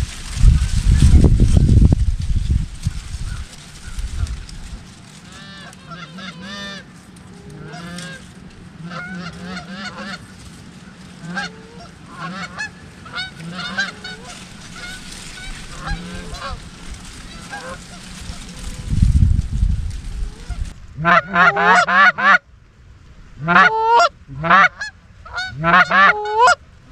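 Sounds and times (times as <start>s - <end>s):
geese honking: 2.8s - 19.4s, 20.0s - 22.5s, 23.4s - 26.9s.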